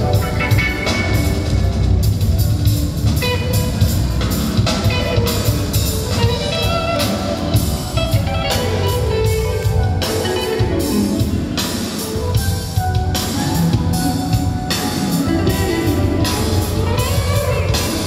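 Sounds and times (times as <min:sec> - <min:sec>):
drum kit beat: 0:00.0 - 0:18.0
live band playing: 0:00.0 - 0:18.0.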